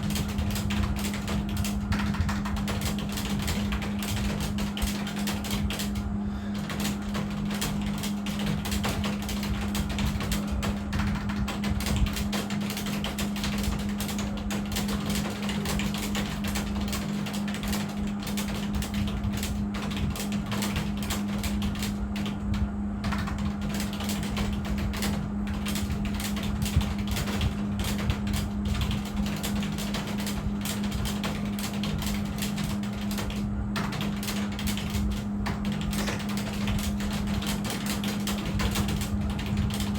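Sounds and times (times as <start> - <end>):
fast keyboard typing: 0.0 - 39.9
steady low hum: 0.0 - 39.9.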